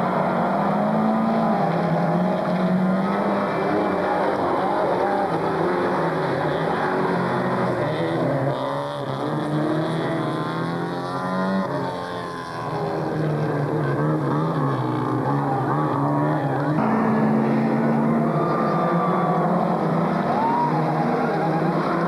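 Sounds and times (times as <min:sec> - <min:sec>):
race car engines revving: 0:00.0 - 0:22.0.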